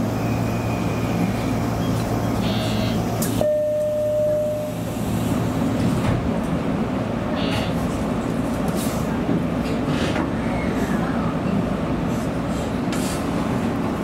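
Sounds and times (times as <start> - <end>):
electric train hum and rumble: 0.0 - 14.0.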